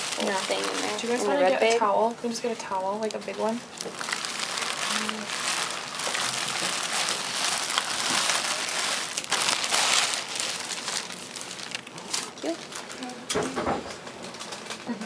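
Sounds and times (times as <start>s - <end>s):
plastic sheeting crinkling: 0.0s - 2.0s, 2.7s - 13.3s, 14.0s - 15.0s.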